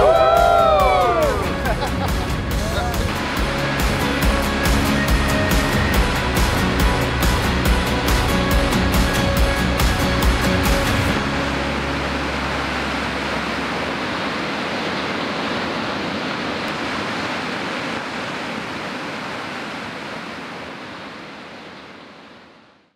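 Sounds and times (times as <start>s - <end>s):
steady rushing noise: 0.0s - 22.9s.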